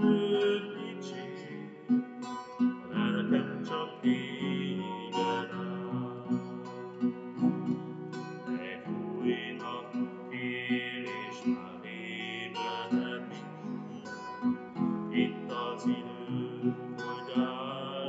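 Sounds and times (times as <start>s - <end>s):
acoustic guitar strumming: 0.0s - 18.0s
man singing a hymn: 0.0s - 18.0s.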